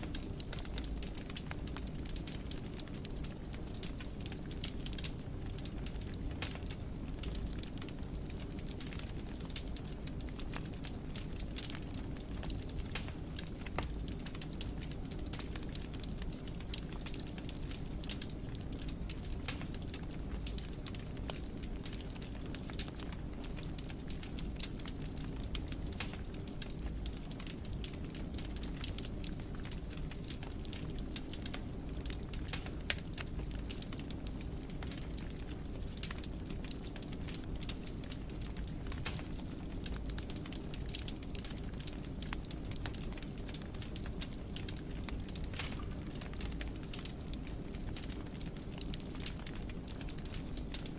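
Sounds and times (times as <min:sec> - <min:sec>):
fire crackling and popping: 0:00.0 - 0:50.9
low roar of flames: 0:00.0 - 0:50.9.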